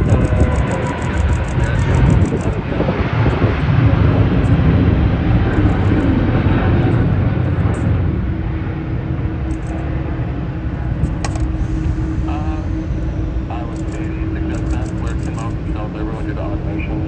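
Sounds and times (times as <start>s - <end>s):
jet engines rumbling: 0.0s - 17.0s
steady low hum: 0.0s - 17.0s.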